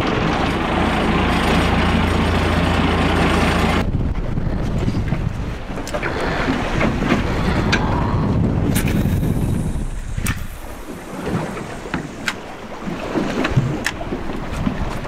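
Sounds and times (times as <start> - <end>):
choppy sea washing: 0.0 - 15.0
wind buffeting microphone: 0.0 - 15.0.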